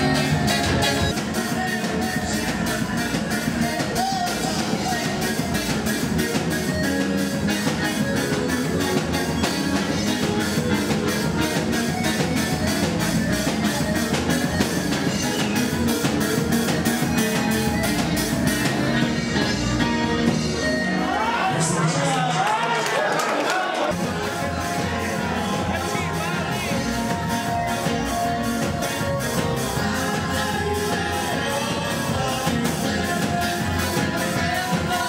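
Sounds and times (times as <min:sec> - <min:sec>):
electronic keyboard: 0:00.0 - 0:22.3, 0:23.9 - 0:35.0
drum kit beat: 0:00.0 - 0:22.4, 0:23.9 - 0:35.0.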